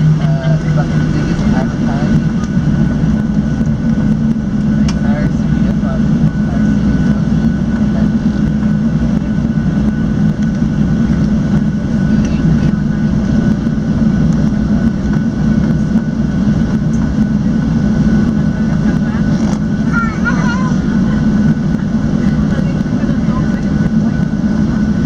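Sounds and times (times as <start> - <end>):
airplane cabin drone: 0.0 - 25.0.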